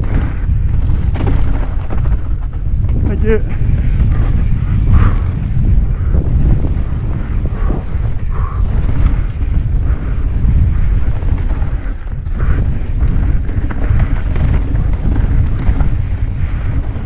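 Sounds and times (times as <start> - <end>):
bike knocks and rattles: 0.0 - 17.0
tyres on dirt trail: 0.0 - 17.0
wind buffeting microphone: 0.0 - 17.0.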